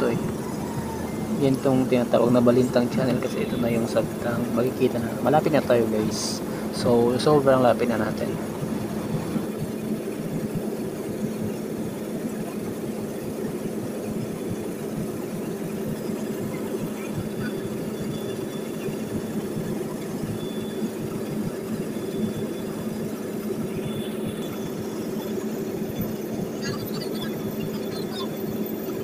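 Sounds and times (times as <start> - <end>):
small plane engine drone in cabin: 0.0 - 29.0.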